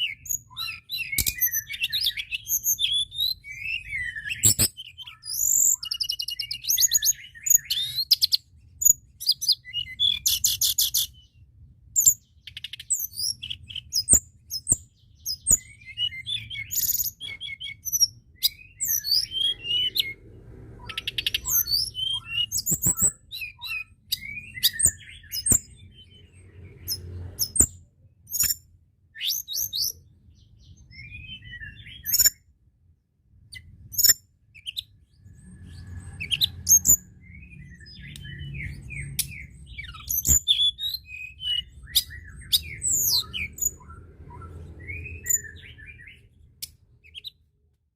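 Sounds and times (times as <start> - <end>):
bird singing chirps and trills: 0.0 - 32.6, 33.2 - 47.6.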